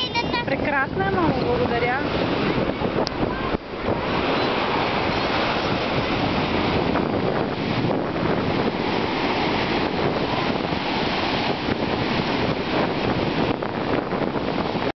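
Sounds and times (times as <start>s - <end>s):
sea waves breaking on beach: 0.0s - 14.9s.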